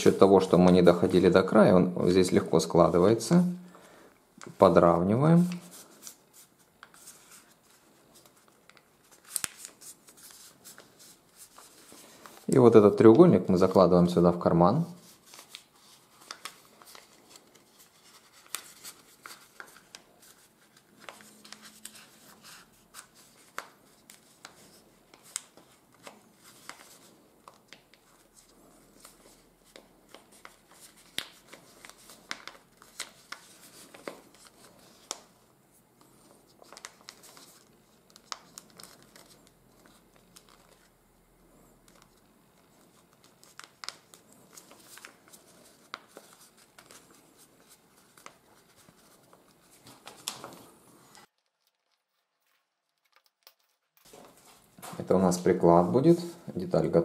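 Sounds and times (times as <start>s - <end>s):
paper rustling and crackling: 5.4s - 13.8s, 15.0s - 35.4s, 36.0s - 41.0s, 41.8s - 55.4s.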